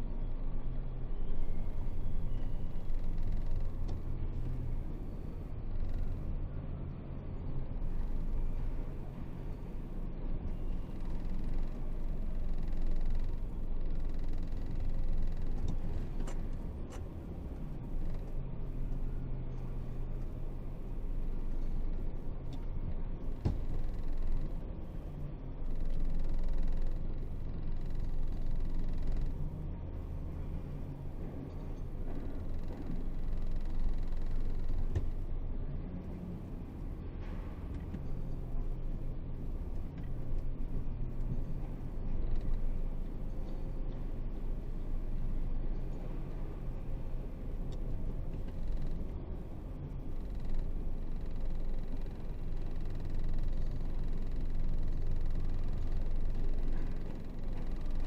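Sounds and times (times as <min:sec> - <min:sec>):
truck diesel engine rumble: 0:00.0 - 0:58.0.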